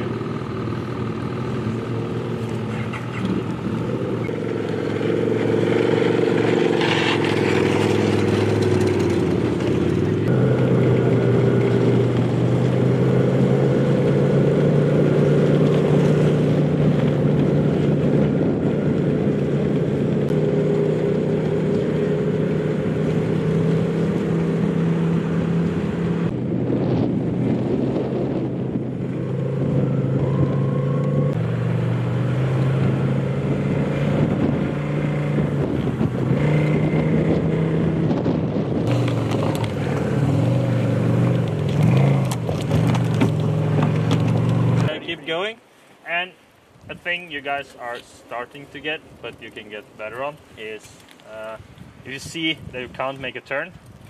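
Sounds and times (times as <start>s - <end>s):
snowmobile engines running: 0.0s - 53.7s.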